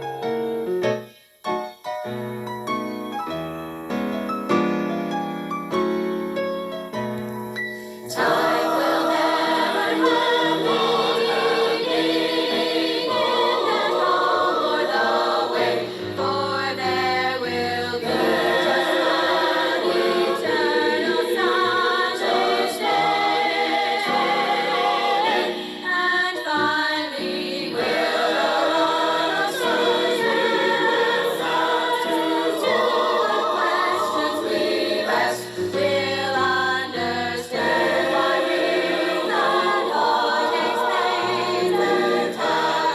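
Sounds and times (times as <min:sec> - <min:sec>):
choir singing a hymn: 0:08.0 - 0:42.9.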